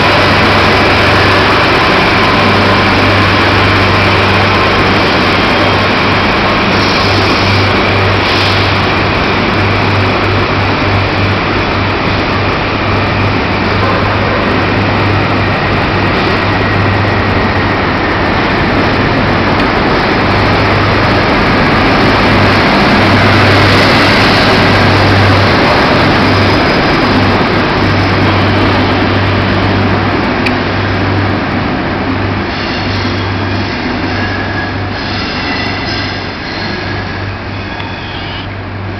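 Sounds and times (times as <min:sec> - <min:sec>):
diesel engines humming: 0:00.0 - 0:35.1
train coaches rumbling on rails: 0:00.0 - 0:38.9.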